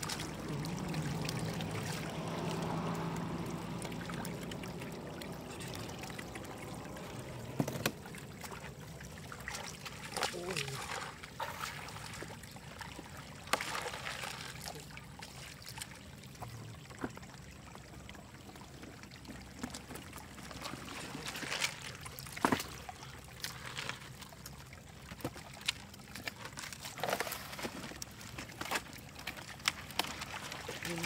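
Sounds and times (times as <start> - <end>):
muddy water splashing and draining: 0.0 - 31.0
steady water trickle: 0.0 - 31.0.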